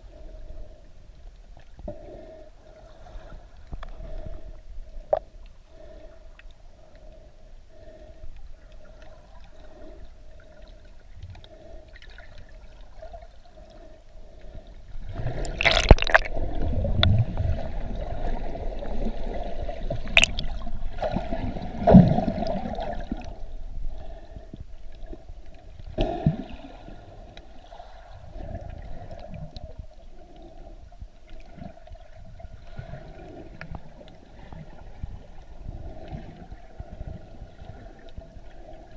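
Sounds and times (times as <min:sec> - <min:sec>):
faint steady hum: 0:00.0 - 0:38.9
underwater gurgling water: 0:00.0 - 0:38.9.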